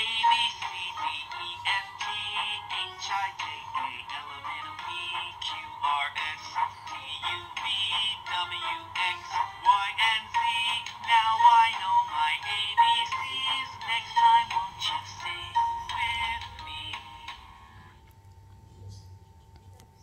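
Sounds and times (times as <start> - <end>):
toy speaker playing sung song: 0.0 - 17.7.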